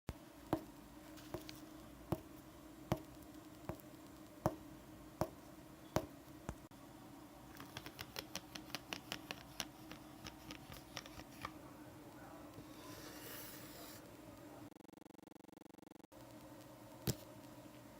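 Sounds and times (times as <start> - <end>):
steady low hum: 0.1 - 17.9.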